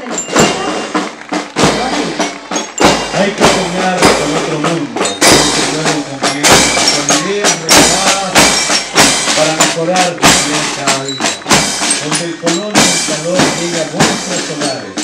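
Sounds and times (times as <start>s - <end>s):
brass melody: 0.0s - 15.0s
drums beating steadily: 0.0s - 15.0s
marching band playing a march: 0.0s - 15.0s.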